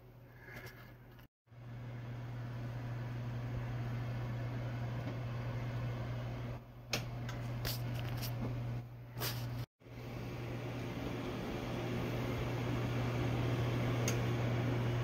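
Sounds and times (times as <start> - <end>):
oven humming: 1.5 - 15.0.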